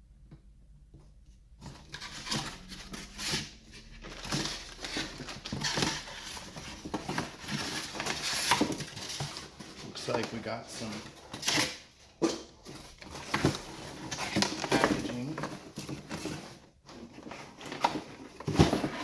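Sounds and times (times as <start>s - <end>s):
packaging rustling and crinkling: 1.6s - 19.0s.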